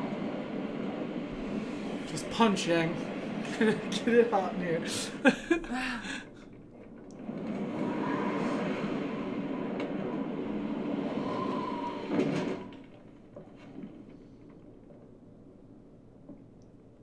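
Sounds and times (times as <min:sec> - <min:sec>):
sliding door rumbling on track: 0:00.0 - 0:16.3.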